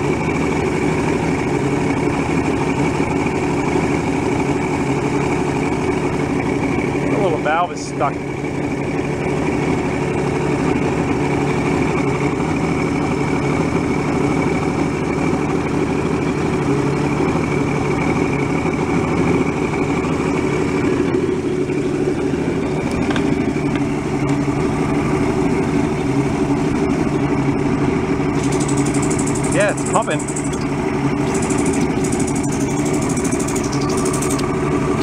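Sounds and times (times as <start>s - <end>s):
outboard motor idling: 0.0s - 35.0s.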